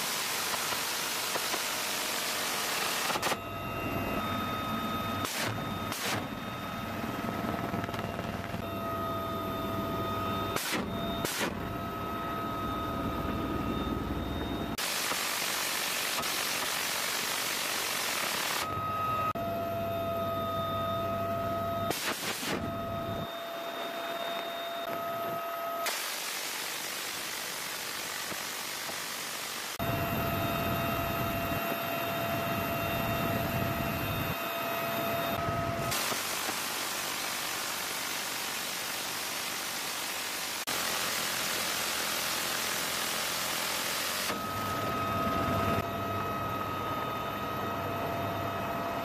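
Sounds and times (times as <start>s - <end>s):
helicopter turbine whine: 0.0s - 49.0s.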